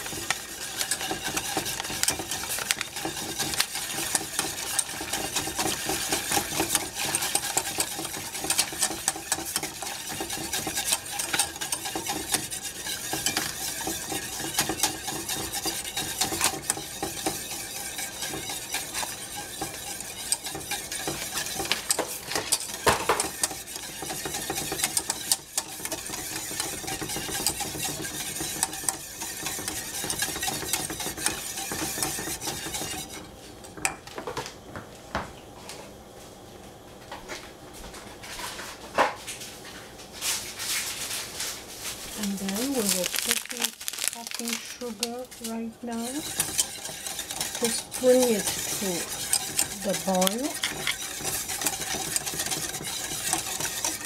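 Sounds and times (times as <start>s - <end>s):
wire whisk scraping metal pan: 0.0s - 33.3s, 41.9s - 54.0s.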